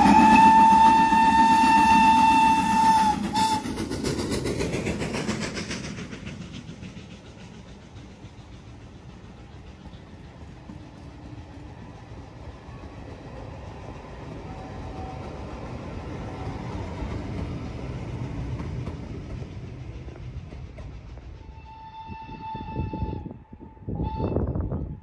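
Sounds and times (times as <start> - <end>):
train wheels clattering over rails: 0.0 - 21.8.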